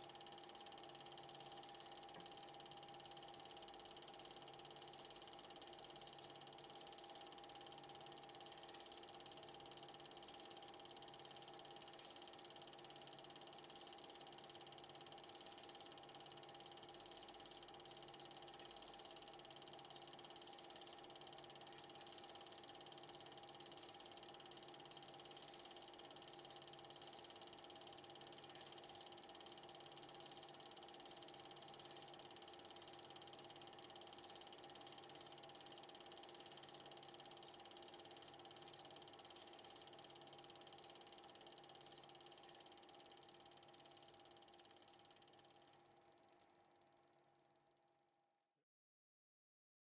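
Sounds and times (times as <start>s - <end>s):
film projector whirring: 0.0s - 46.5s.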